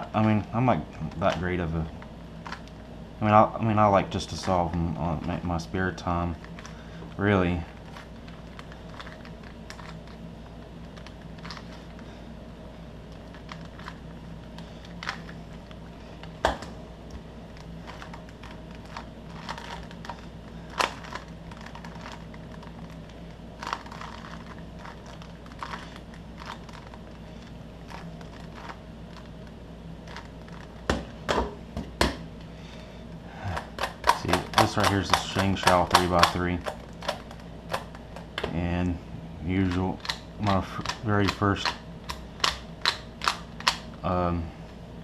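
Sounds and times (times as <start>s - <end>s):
low hum: 0.0s - 45.0s.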